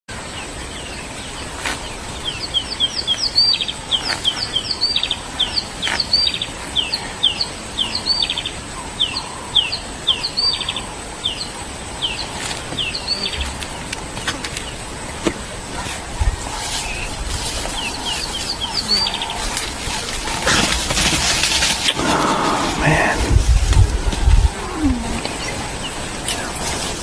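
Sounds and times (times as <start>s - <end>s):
birds chirping: 0.2s - 27.0s.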